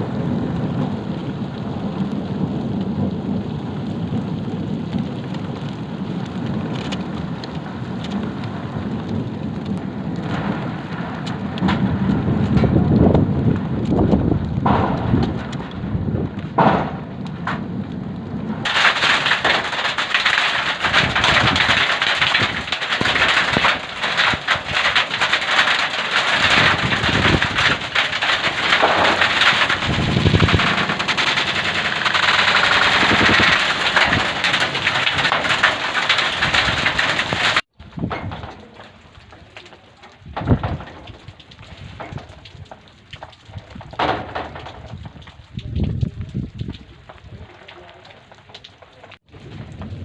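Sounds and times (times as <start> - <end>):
hail rattling on hard surface: 0.0 - 50.0
rain: 0.0 - 50.0
wind: 0.0 - 50.0.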